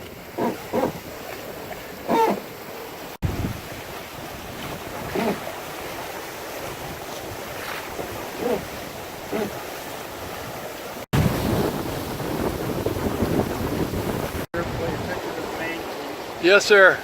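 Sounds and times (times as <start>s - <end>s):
wind buffeting microphone: 0.0s - 15.9s
water rushing past hull: 0.0s - 17.0s
water swishes: 0.0s - 17.0s.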